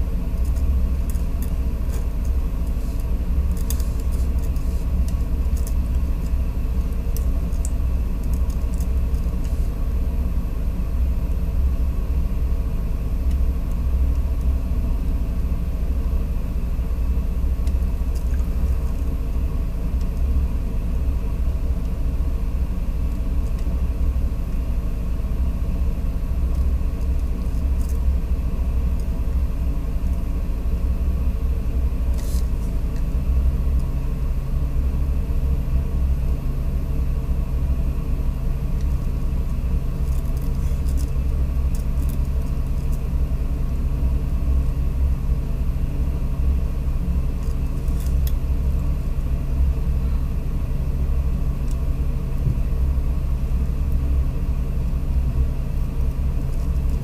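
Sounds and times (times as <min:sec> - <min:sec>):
low hum: 0:00.0 - 0:57.0
steady low rumble: 0:00.0 - 0:57.0.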